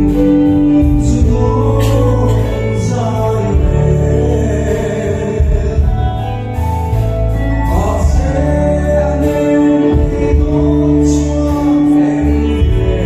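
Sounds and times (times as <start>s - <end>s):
live band playing: 0.0s - 13.0s
man singing live: 0.0s - 13.0s.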